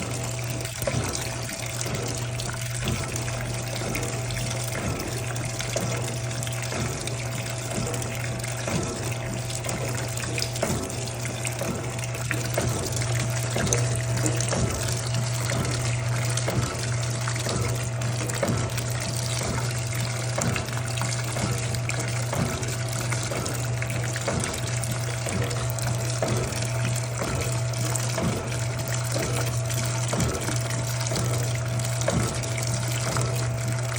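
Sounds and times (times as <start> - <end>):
water rushing into tub: 0.0 - 33.9.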